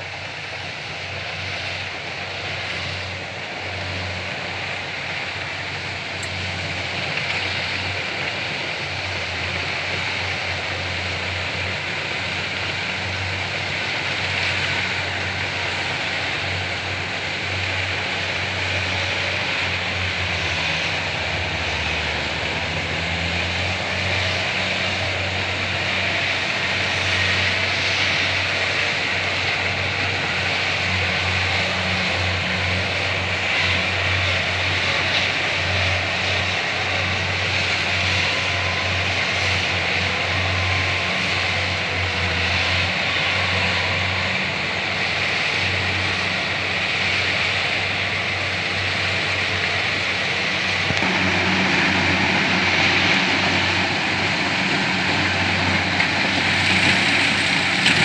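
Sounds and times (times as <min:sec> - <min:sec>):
combine harvester engine running: 0:00.0 - 0:58.0.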